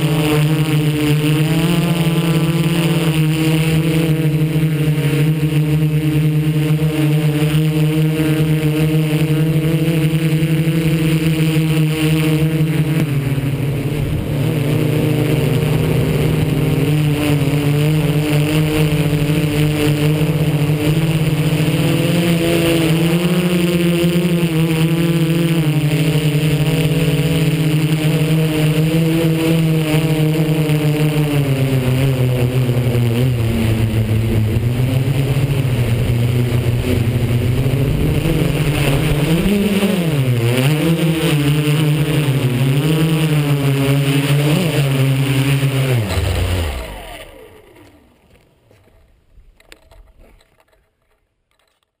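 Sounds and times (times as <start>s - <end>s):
drone motors whining: 0.0s - 51.9s.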